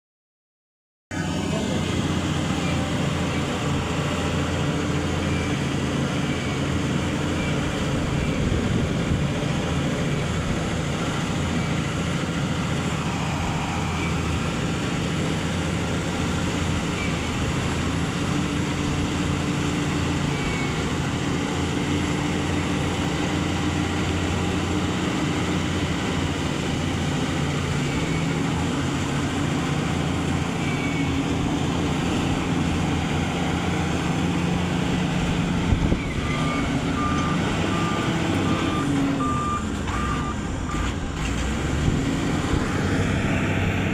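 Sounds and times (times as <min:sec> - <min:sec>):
diesel engine running: 0:01.1 - 0:43.9.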